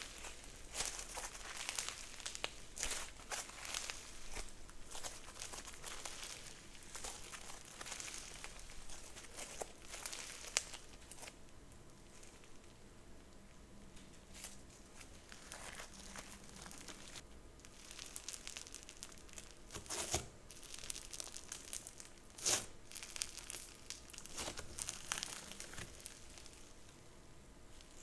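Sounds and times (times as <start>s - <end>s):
crunchy slime being squeezed: 0.0s - 11.4s, 14.3s - 26.9s.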